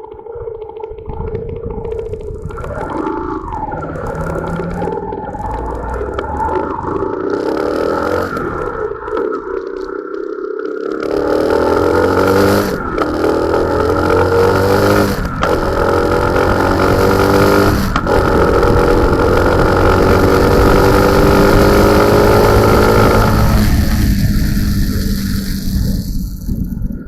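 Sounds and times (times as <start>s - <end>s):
motorcycle engine accelerating: 1.7s - 9.8s, 10.9s - 27.0s.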